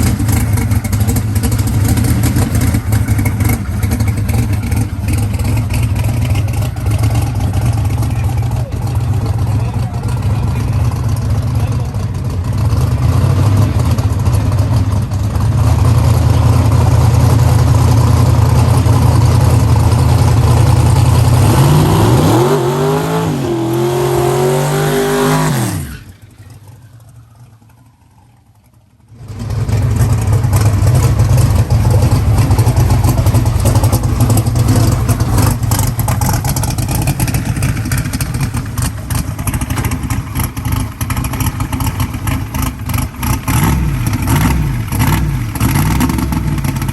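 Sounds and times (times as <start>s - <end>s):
drag racing engine revving: 0.0s - 28.1s, 29.2s - 46.9s
crackling engine noise: 0.0s - 46.9s.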